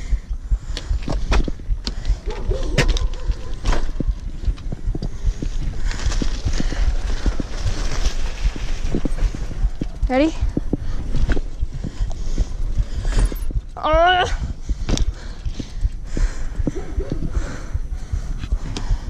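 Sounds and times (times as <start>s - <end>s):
bicycle rattling and knocking: 0.0s - 19.0s
wind rumble on microphone: 0.0s - 19.0s.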